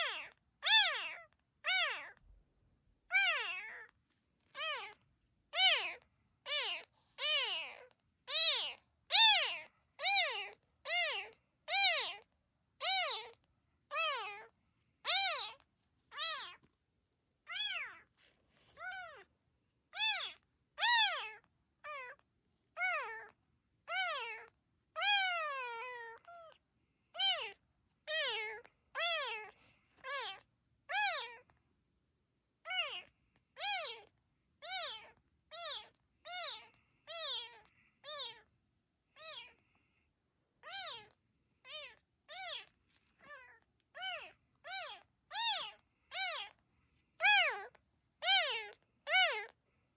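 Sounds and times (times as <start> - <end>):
kitten meowing: 0.0 - 2.2, 3.1 - 3.9, 4.5 - 16.7, 17.5 - 18.1, 18.7 - 19.3, 19.9 - 22.2, 22.8 - 26.6, 27.2 - 31.5, 32.7 - 38.5, 39.2 - 39.6, 40.6 - 46.6, 47.2 - 49.6.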